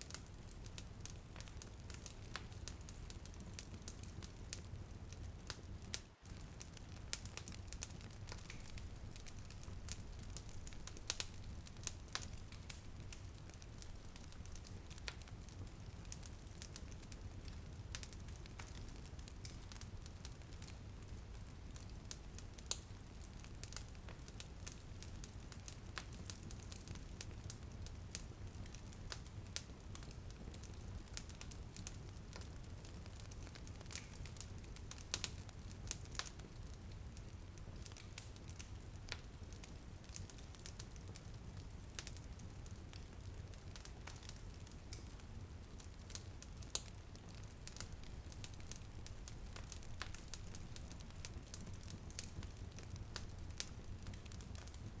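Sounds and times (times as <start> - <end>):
fireplace fire crackling: 0.0 - 55.0
drizzle patter on a window: 5.5 - 55.0.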